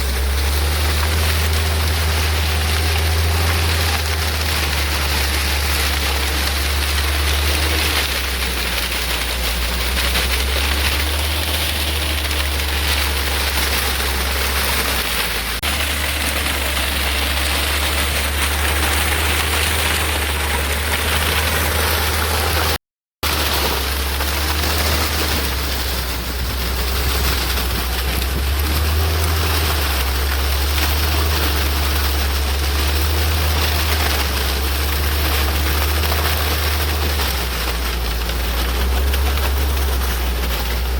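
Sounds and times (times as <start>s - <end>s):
tiller engine droning: 0.0s - 40.9s.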